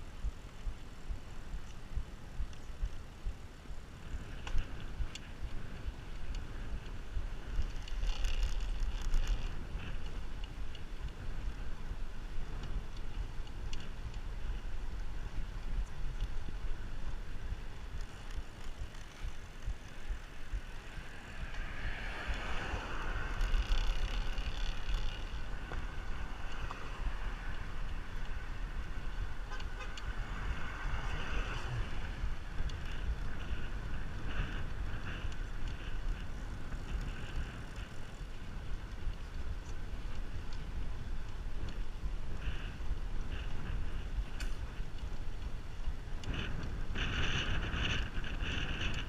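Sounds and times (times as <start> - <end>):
wind rushing over microphone: 0.0 - 49.0.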